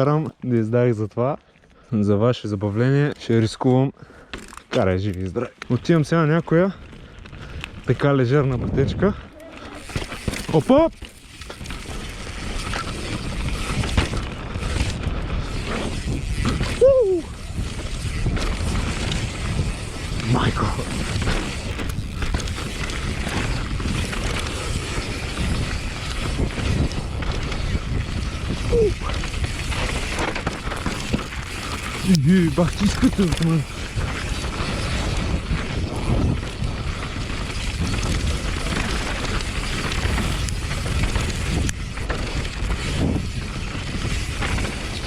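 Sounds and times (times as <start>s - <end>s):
tyres rumbling over dirt trail: 0.0s - 45.0s
wind buffeting microphone: 6.7s - 45.0s.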